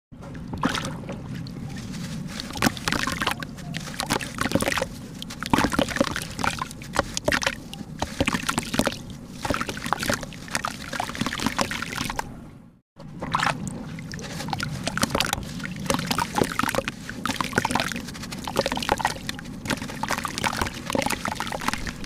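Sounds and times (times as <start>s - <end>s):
water sloshing and splashing: 0.2s - 12.4s, 13.0s - 22.0s.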